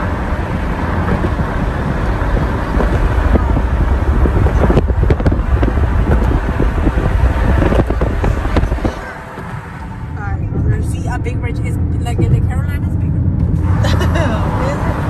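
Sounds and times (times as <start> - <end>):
road and wind noise: 0.0 - 15.0
wind buffeting microphone: 0.0 - 15.0.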